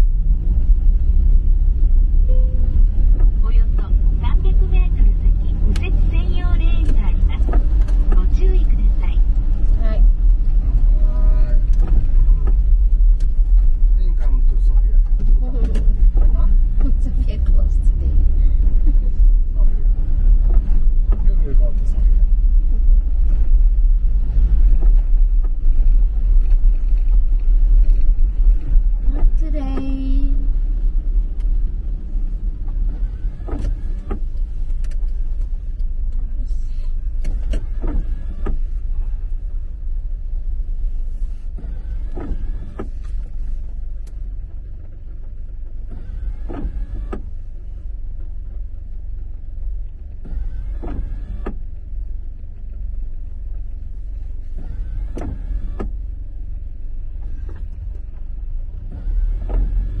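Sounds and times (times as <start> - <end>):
car engine rumble: 0.0 - 60.0
tyres on wet road: 0.0 - 60.0
windscreen wipers sweeping: 0.0 - 60.0.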